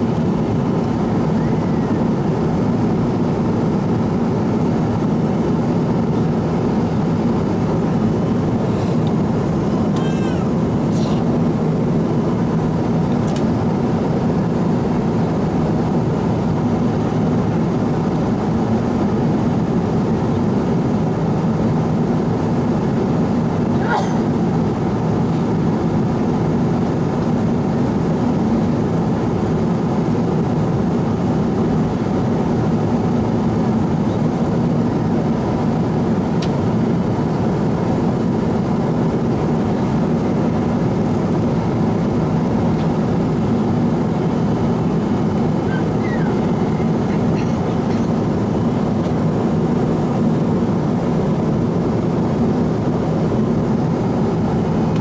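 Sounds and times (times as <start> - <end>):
airplane cabin drone: 0.0 - 55.0.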